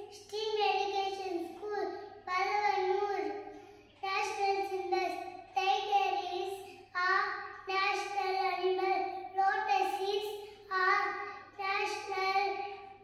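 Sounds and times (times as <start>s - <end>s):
boy reciting in a chant: 0.0s - 13.0s.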